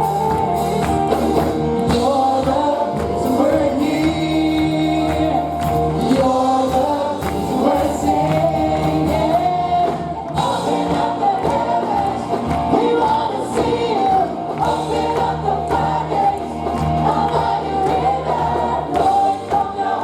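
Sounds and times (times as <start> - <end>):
congregation singing gospel: 0.0 - 20.0.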